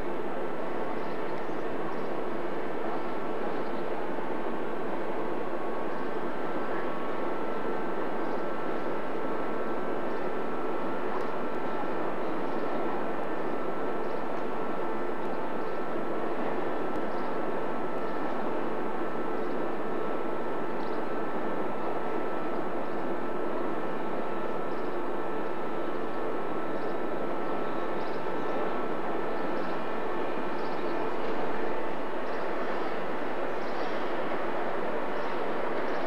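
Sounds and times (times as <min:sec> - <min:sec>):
electric train droning and whining: 0:00.0 - 0:36.0
passing train: 0:00.0 - 0:36.0.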